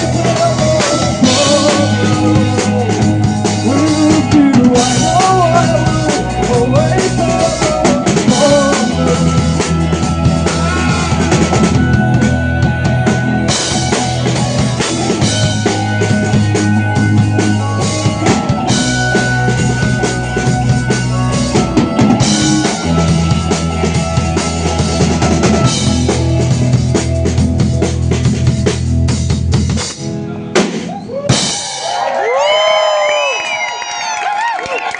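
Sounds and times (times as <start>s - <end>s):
drum kit: 0.0s - 33.6s
live rock band playing: 0.0s - 34.9s.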